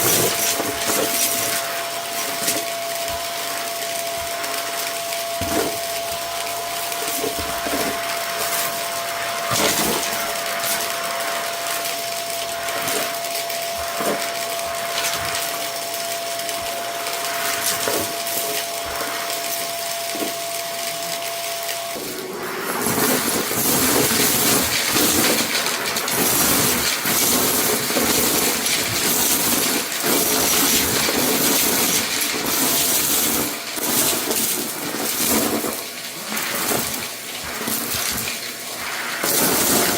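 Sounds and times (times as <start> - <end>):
debris rattling in vacuum: 0.0 - 39.9
vacuum cleaner running: 0.0 - 39.9.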